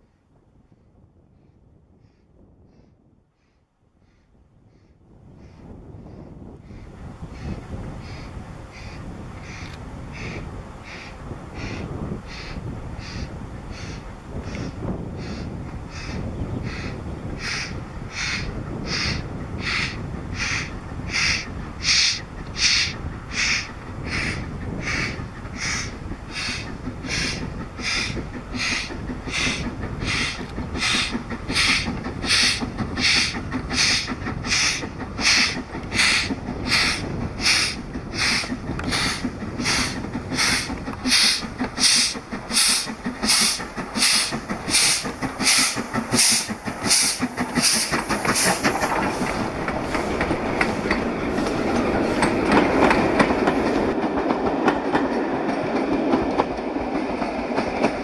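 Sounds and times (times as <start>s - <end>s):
steam locomotive chuffing: 7.2s - 58.0s.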